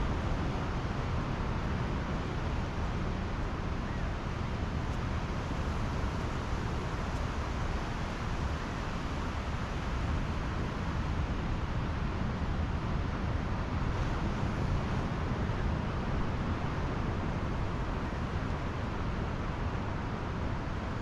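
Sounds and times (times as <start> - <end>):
ocean surf on beach: 0.1 - 21.0.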